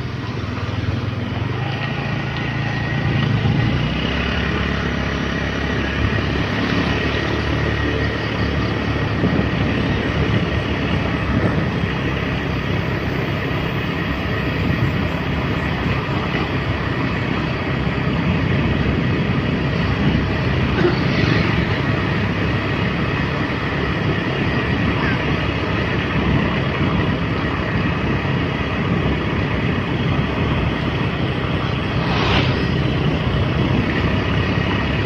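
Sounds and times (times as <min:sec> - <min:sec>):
motorbike engine running: 0:00.0 - 0:35.0
road and wind noise: 0:00.0 - 0:35.0.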